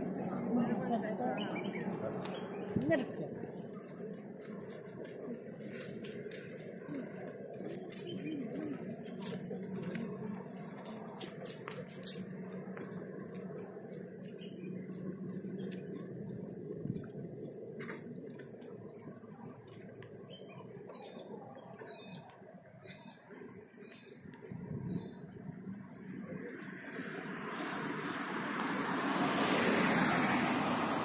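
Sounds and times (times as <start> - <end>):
distant road traffic hum: 0.0 - 31.0
footsteps clicking: 1.8 - 28.2.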